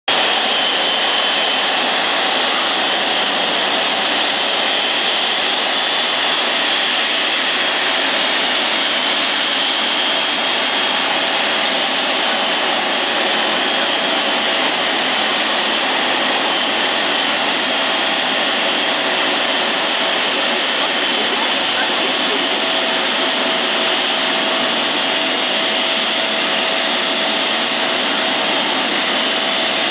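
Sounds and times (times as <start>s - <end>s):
high steady whine: 0.1s - 29.9s
jet engine rush: 0.1s - 29.9s.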